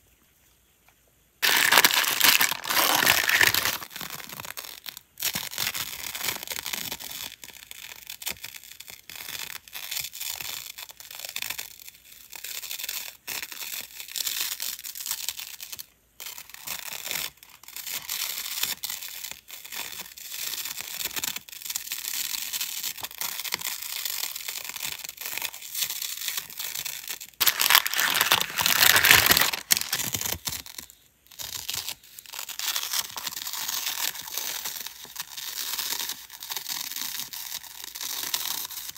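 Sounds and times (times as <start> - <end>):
tape peeling off roll: 1.4 - 7.4, 8.2 - 38.9.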